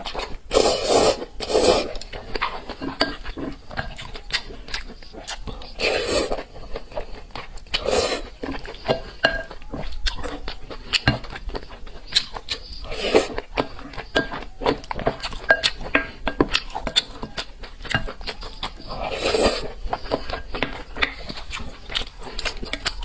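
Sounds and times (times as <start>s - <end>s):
noodle slurping: 0.0s - 3.6s, 4.3s - 9.4s, 10.2s - 14.2s, 15.2s - 23.0s
wet chewing and biting: 0.0s - 23.0s.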